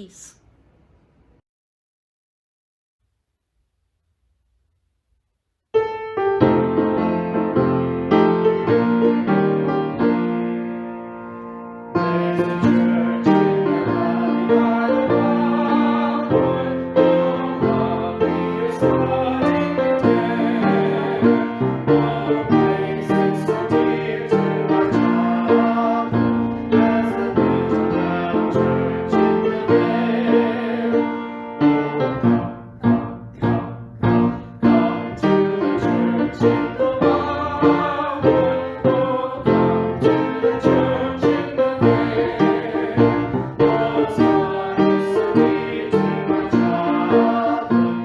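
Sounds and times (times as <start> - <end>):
piano music: 5.8 - 48.0.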